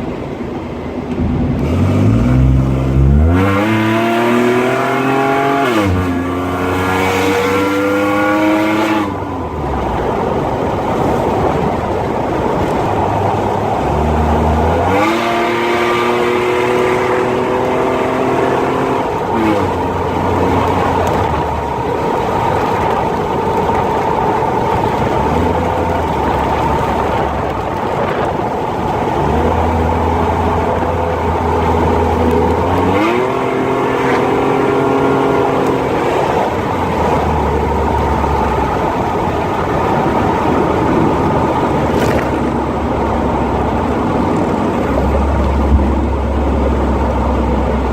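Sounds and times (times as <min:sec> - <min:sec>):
road noise: 0:00.0 - 0:47.9
car engine accelerating: 0:00.3 - 0:47.9.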